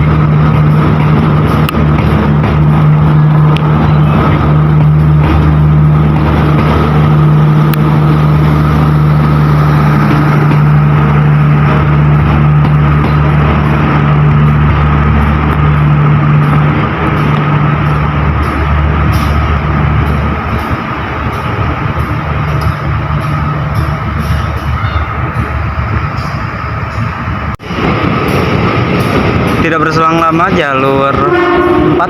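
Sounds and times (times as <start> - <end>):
locomotive engine droning: 0.0 - 32.0.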